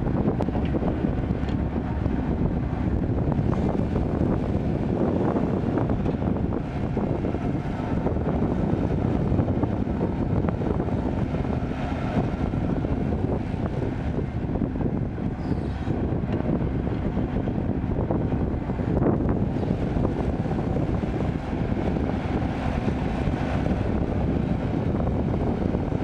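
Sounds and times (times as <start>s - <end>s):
excavator diesel engine rumbling: 0.0s - 26.0s
wind on microphone: 0.0s - 26.0s.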